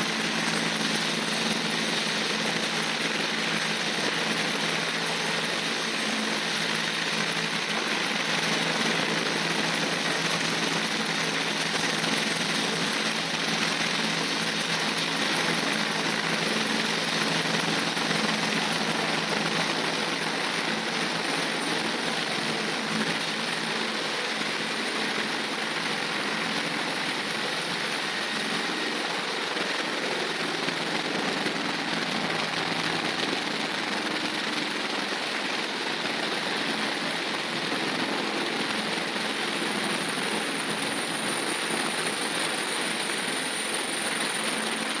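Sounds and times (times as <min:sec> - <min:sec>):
helicopter engine and rotors: 0:00.0 - 0:45.0.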